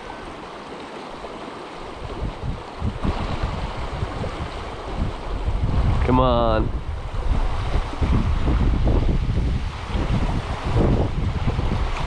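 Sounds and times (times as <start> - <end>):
creek water rushing over rocks: 0.0 - 12.0
wind buffeting microphone: 1.2 - 12.0.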